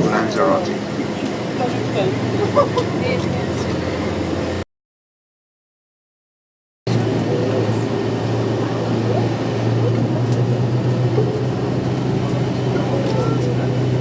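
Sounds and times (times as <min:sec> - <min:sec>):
faint voices: 0:00.0 - 0:04.3, 0:06.9 - 0:14.0
vehicle engine hum and road noise: 0:00.0 - 0:04.6, 0:06.9 - 0:14.0.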